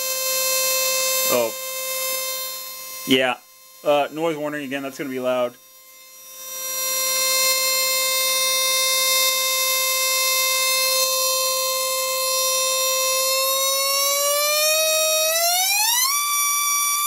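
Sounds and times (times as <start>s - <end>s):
tesla coil spark buzzing: 0.0s - 17.0s.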